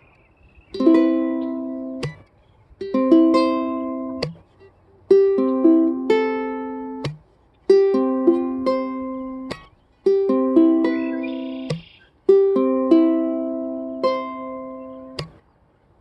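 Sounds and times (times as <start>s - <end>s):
ukulele strumming chords: 0.8s - 15.4s.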